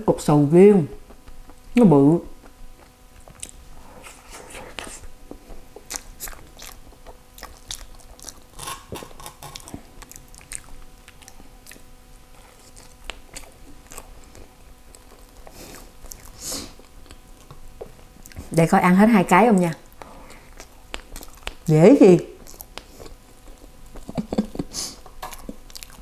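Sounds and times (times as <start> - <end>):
person chewing: 1.0 - 18.5, 19.9 - 21.7, 22.4 - 26.0.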